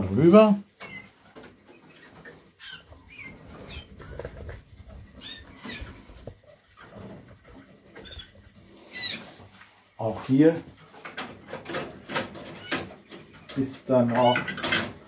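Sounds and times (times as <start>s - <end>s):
canaries chirping: 0.0s - 10.4s, 11.0s - 15.0s
faint rustling: 0.7s - 15.0s.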